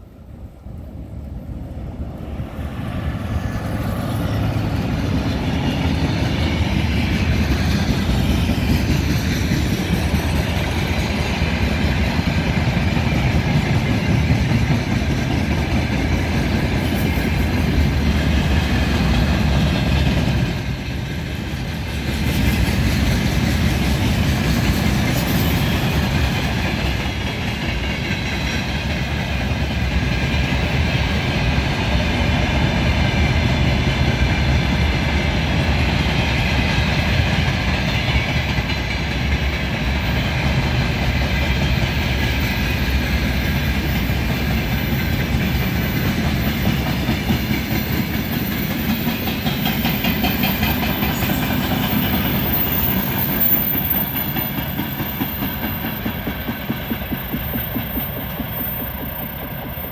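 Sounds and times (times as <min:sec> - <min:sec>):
diesel locomotive approaching: 0:00.0 - 0:59.9
freight train wheels rumbling on rail: 0:00.0 - 0:59.9.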